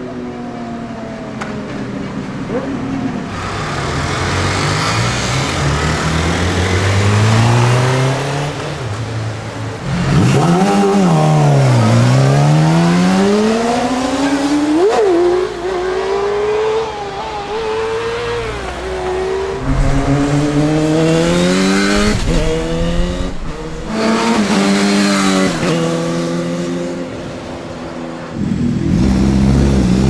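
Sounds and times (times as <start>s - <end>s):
motorcycle engine revving: 3.4s - 30.0s.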